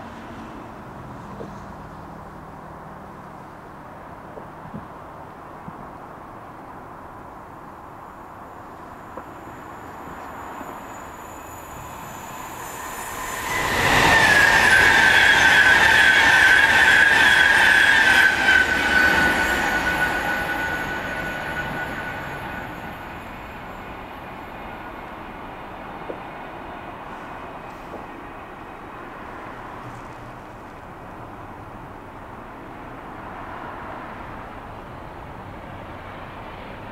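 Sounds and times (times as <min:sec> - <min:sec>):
high whine of train: 0:00.0 - 0:36.9
electric train passing at speed: 0:03.6 - 0:36.9.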